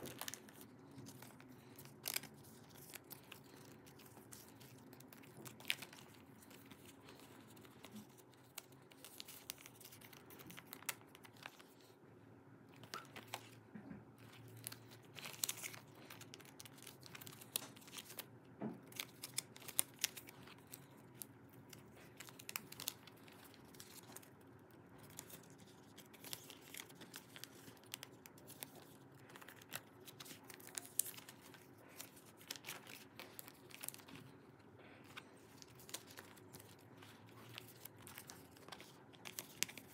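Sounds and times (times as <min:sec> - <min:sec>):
plastic sleeves crinkling: 0:00.0 - 0:12.0, 0:12.7 - 0:39.9
faint steady hum: 0:00.0 - 0:39.9.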